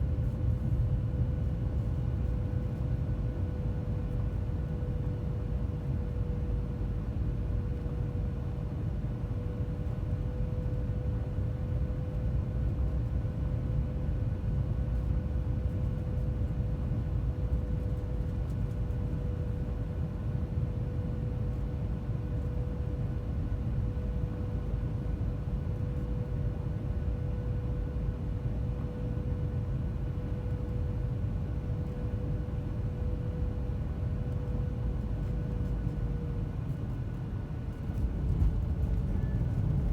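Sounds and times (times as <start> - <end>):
jet engine cabin rumble: 0.0 - 39.9
steady engine whine: 0.0 - 39.9.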